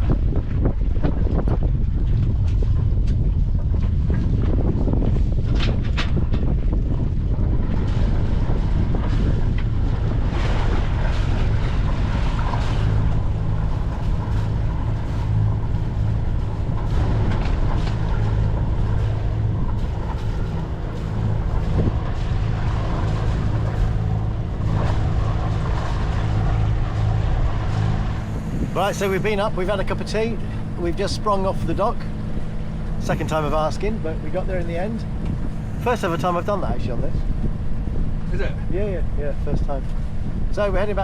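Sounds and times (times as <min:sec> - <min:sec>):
boat engine droning: 0:00.0 - 0:41.0
wind on microphone: 0:00.0 - 0:41.0.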